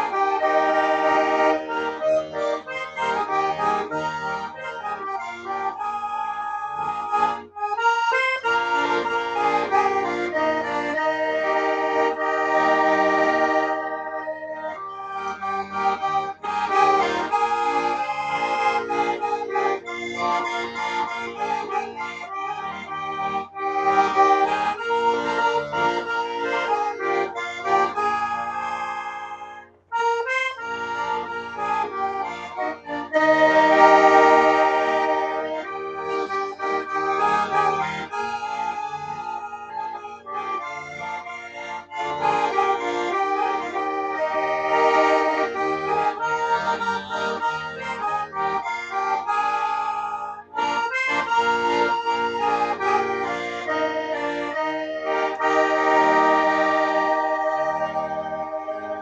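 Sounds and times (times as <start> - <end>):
accordion playing chords: 0.0 - 59.0.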